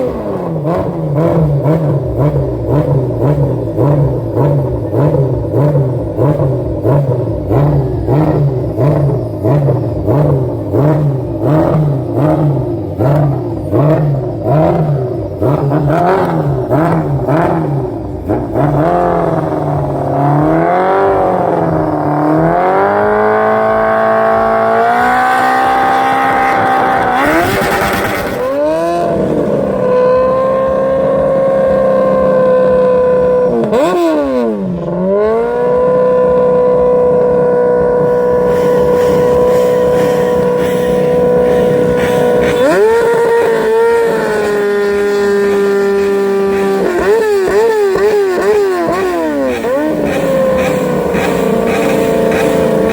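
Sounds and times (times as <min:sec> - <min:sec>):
engine revving hard: 0:00.0 - 0:52.9.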